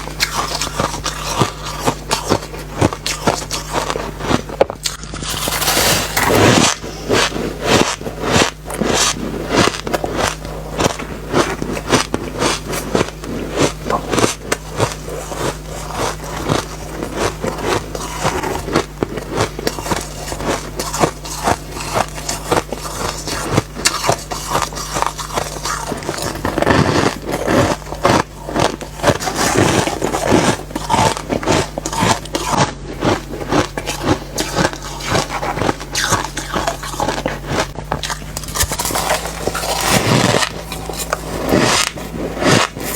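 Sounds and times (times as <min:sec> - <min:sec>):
chewing crunchy ice: 0:00.0 - 0:42.9.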